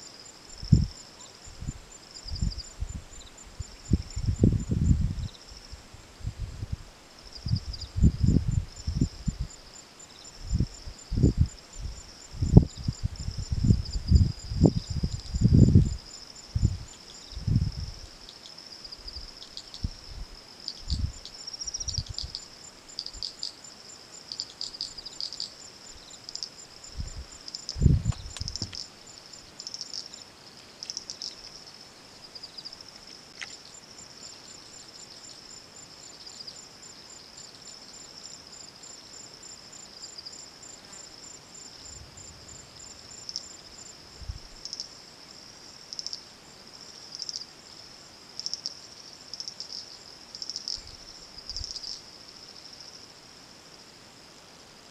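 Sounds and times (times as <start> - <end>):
insects chirring: 0.0 - 54.9
fast pulsing insect trill: 7.2 - 32.9, 33.5 - 53.2.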